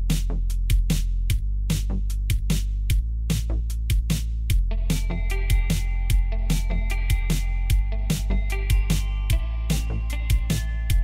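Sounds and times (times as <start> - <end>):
intro music with drum beat: 0.0 - 11.0.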